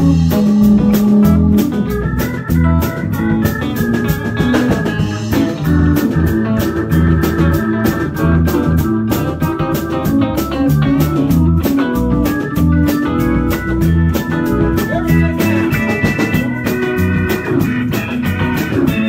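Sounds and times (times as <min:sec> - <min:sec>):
bass guitar: 0:00.0 - 0:19.0
drum kit with cymbal beat: 0:00.0 - 0:19.0
electric guitar: 0:00.0 - 0:19.0
keyboards: 0:00.0 - 0:19.0.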